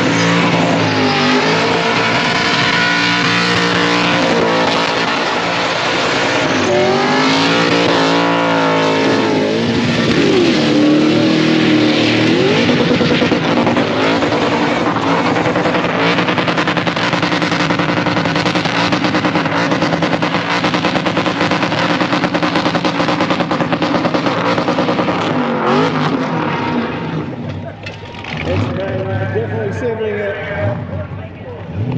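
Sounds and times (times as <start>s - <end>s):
car engine revving hard: 0.0s - 27.6s, 28.2s - 29.7s, 30.6s - 31.9s.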